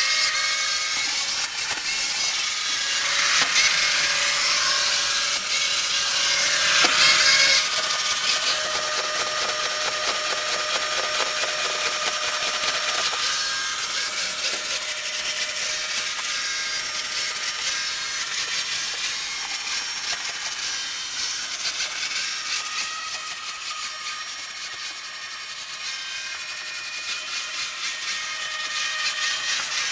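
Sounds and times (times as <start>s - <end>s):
robot vacuum cleaner running: 0.8s - 29.9s.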